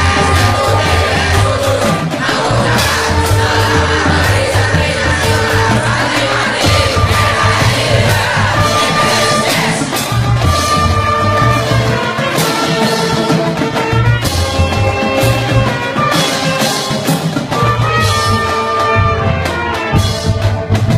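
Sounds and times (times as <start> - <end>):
instrumental music with drum beats: 0.0 - 20.9.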